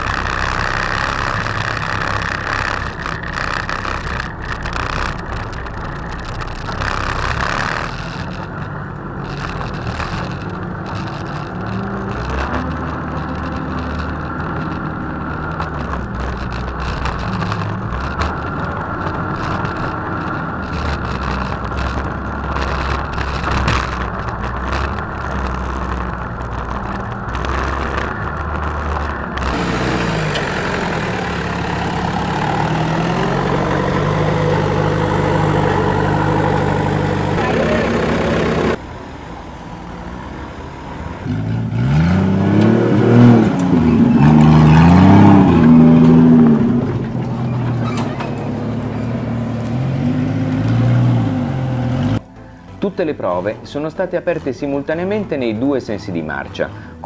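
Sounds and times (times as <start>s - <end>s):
off-road vehicle engine low revs: 0.0s - 52.8s.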